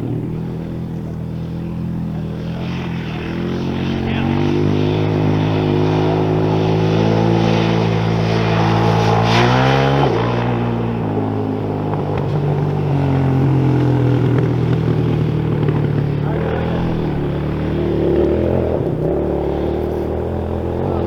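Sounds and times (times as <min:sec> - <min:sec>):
atv engine running hard: 0:00.0 - 0:21.0
track noise: 0:00.0 - 0:21.0
wind: 0:00.0 - 0:21.0.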